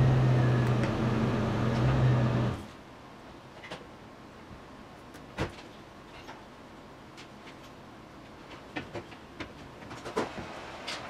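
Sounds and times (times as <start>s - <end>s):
loud low mechanical hum: 0.0s - 11.0s.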